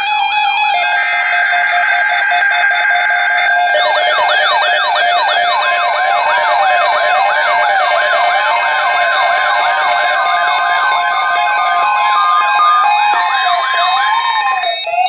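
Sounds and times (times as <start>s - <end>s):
sweeping electronic siren tones: 0.0s - 15.0s
steady electronic tone: 0.9s - 15.0s.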